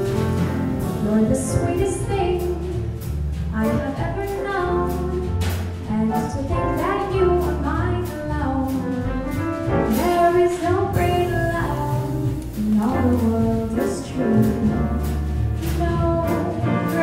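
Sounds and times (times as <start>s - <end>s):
grand piano: 0.0s - 17.0s
upright bass: 0.0s - 17.0s
woman singing a jazz ballad: 0.1s - 9.1s, 9.8s - 17.0s.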